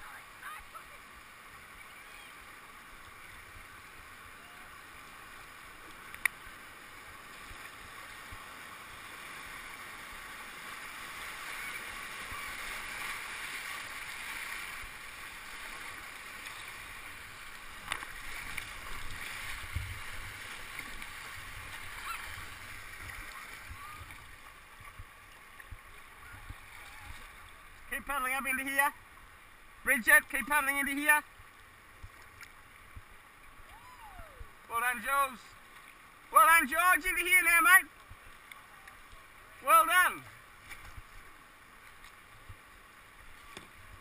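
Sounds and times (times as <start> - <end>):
paddle strokes splashing: 0.0 - 33.8, 35.6 - 44.0
rushing whitewater: 0.0 - 44.0.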